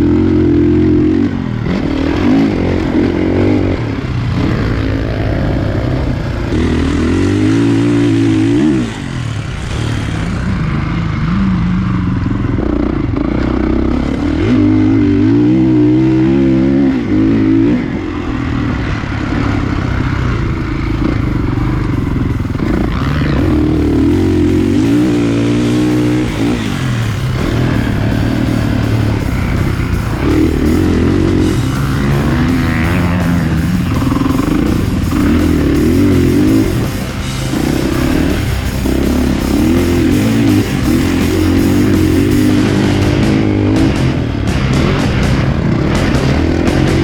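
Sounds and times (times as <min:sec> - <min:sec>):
motocross bike engine revving: 0:00.0 - 0:47.0.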